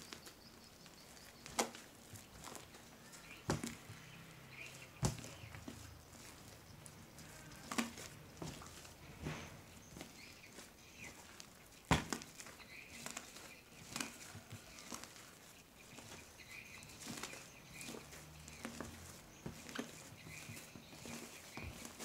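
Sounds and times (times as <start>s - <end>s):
slime squishing and crackling: 0.0s - 9.2s, 9.8s - 22.0s.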